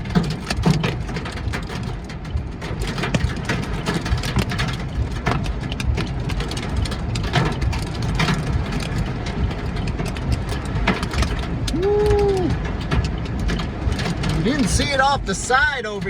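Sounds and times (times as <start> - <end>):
hailstones striking a car: 0.0 - 16.0
storm wind buffeting a car: 0.0 - 16.0.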